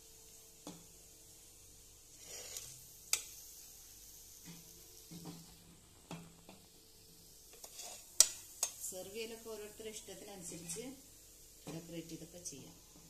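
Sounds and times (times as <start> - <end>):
frying oil sizzling: 0.0 - 13.0.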